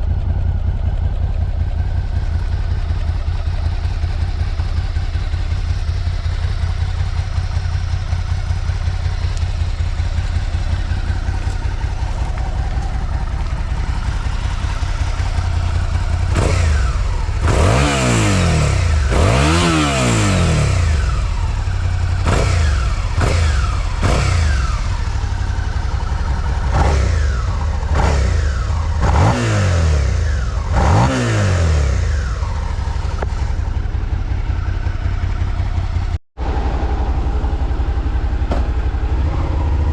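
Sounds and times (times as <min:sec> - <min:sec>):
motorcycle engine idling: 0:00.0 - 0:39.9
motorcycle throttle blips: 0:00.0 - 0:39.9.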